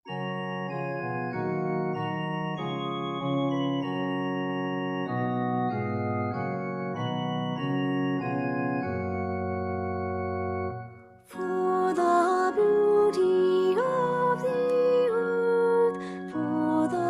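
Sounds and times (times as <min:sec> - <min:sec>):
organ playing held chords: 0:00.1 - 0:17.0.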